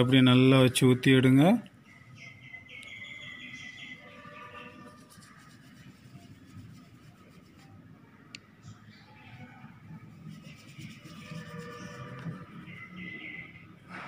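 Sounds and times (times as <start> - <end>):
faint bird chirps: 1.8 - 13.8.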